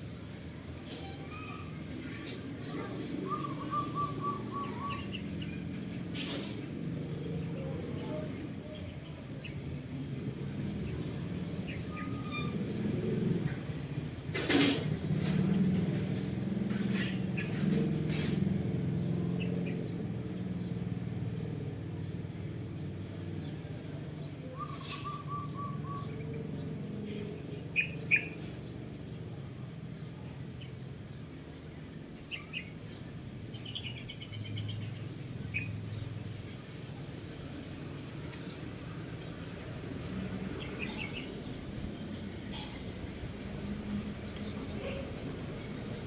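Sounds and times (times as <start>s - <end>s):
birds chirping: 1.4s - 14.2s, 14.9s - 46.0s.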